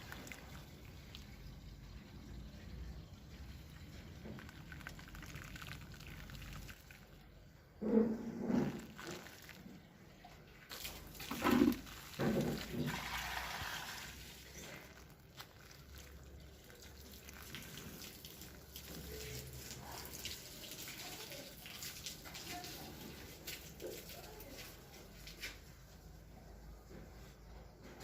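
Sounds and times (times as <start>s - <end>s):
fizzing crackle: 0.0s - 7.6s, 8.4s - 26.0s.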